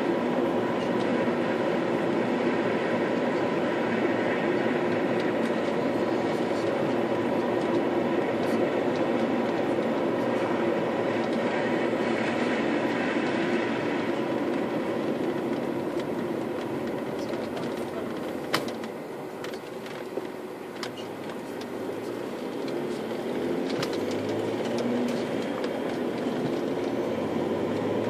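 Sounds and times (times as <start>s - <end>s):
car cabin road noise: 0.0s - 28.0s
low engine hum: 0.0s - 28.0s.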